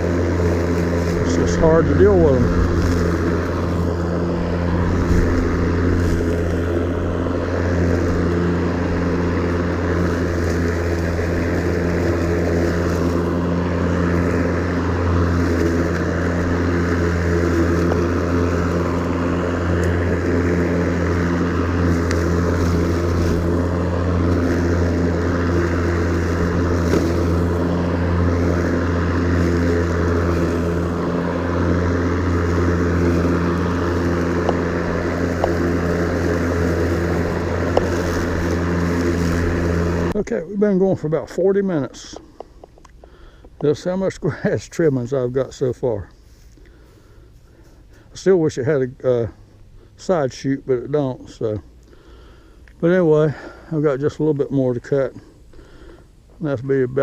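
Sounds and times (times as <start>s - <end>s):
electric lawn mower humming: 0.0s - 57.0s.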